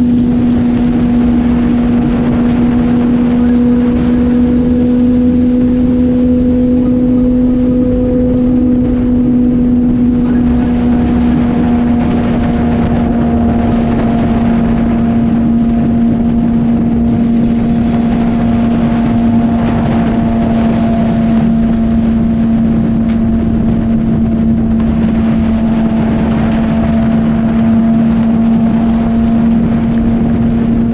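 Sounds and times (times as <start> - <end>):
motorcycle engine cruising: 0.0 - 30.9
wind rumble on microphone: 0.0 - 30.9.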